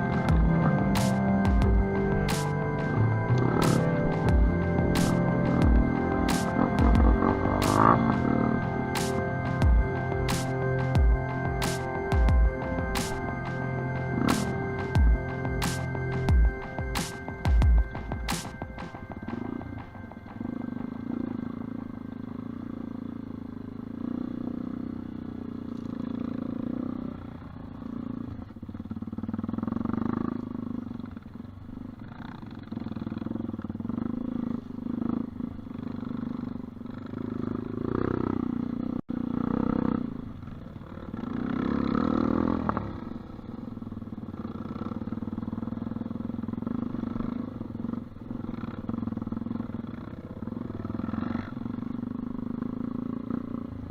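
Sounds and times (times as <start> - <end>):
dirt bike engine revving: 0.0 - 10.6, 18.3 - 31.1, 32.0 - 53.9.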